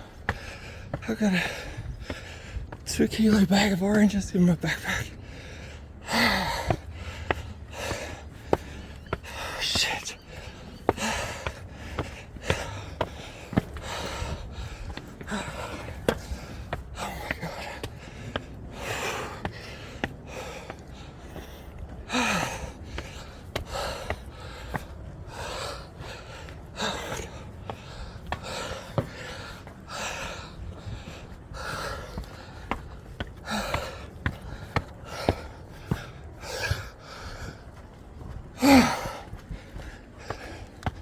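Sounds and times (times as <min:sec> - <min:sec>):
man panting: 0:00.0 - 0:41.0.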